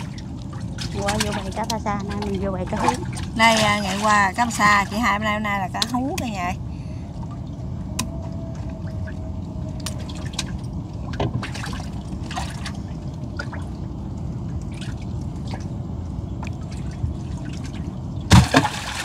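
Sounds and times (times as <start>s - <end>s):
steady low rumble: 0.0s - 19.0s
water dripping and splashing: 0.0s - 19.0s.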